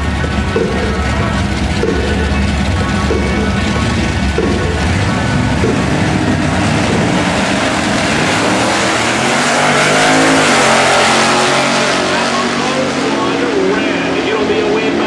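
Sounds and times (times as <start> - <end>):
racing car engines at full throttle: 0.0 - 15.0.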